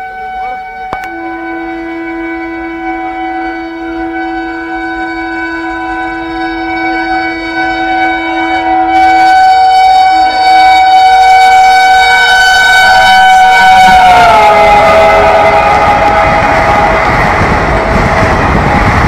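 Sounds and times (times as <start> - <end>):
locomotive horn blast: 0.0 - 19.0.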